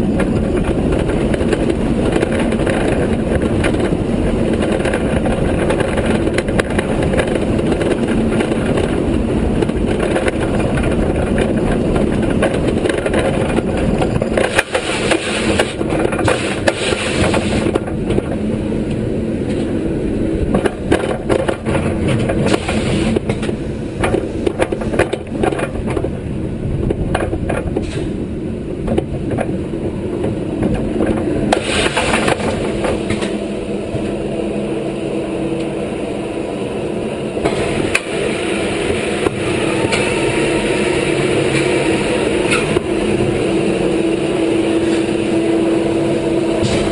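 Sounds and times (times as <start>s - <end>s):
roller coaster brakes clanking: 0.0s - 46.9s
roller coaster rumbling on track: 0.0s - 46.9s.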